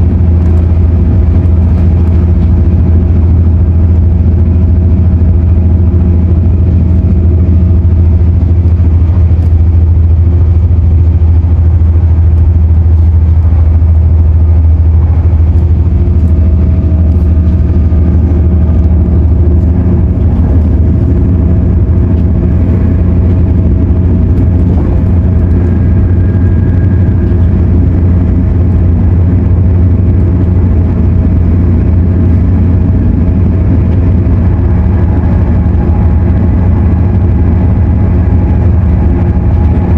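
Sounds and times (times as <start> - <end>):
constant hum: 0.0 - 39.9
faint steady whine: 0.0 - 39.9
train running rumble: 0.0 - 39.9.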